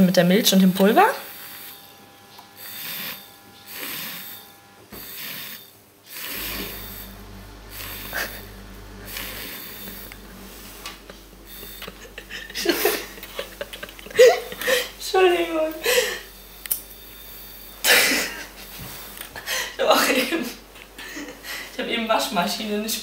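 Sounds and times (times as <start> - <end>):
milk frother whirring: 0.5 - 19.3.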